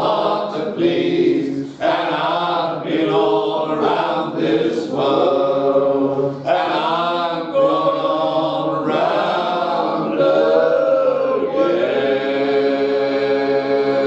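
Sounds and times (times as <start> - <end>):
male voices singing in harmony: 0.0 - 14.0.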